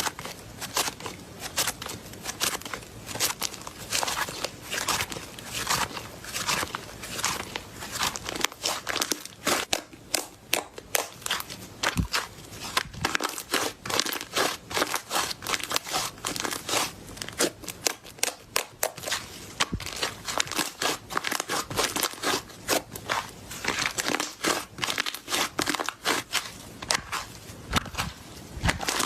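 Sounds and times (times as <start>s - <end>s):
slime crackling and popping: 0.0s - 29.0s.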